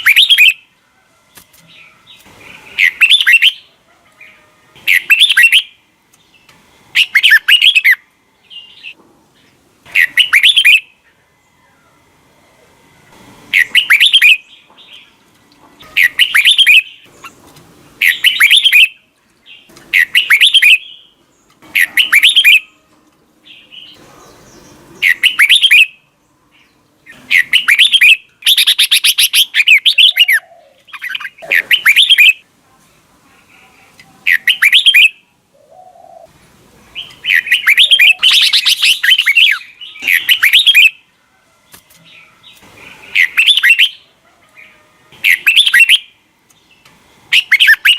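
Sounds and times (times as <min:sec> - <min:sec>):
bird singing warbled phrases: 0:00.0 - 0:00.7, 0:01.7 - 0:12.0, 0:13.5 - 0:15.2, 0:15.8 - 0:22.8, 0:23.4 - 0:32.5, 0:33.4 - 0:36.3, 0:36.9 - 0:41.1, 0:42.0 - 0:47.9.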